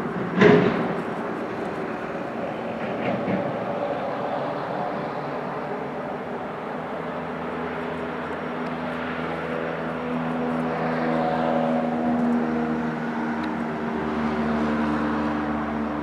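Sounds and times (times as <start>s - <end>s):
distant engine drone: 0.0s - 16.0s
rushing noise: 0.0s - 16.0s.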